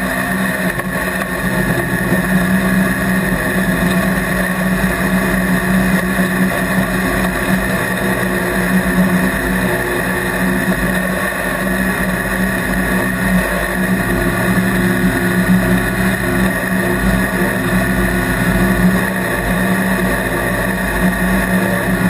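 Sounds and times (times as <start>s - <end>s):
truck engine running hard: 0.0s - 22.0s
wind and road noise: 0.0s - 22.0s.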